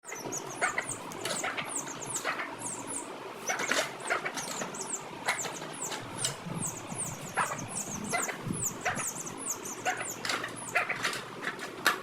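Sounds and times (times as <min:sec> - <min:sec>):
chicks peeping: 0:00.0 - 0:11.1.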